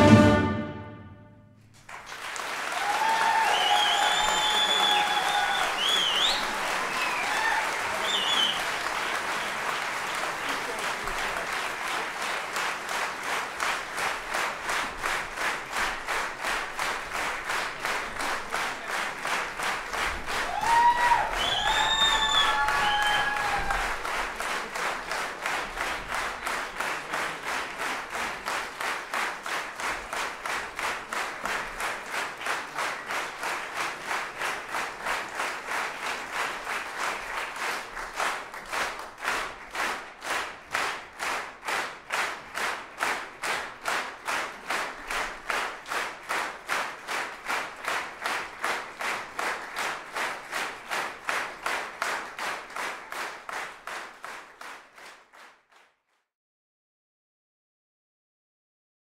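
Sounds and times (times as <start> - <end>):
audience rhythmic clapping: 0.0 - 56.3.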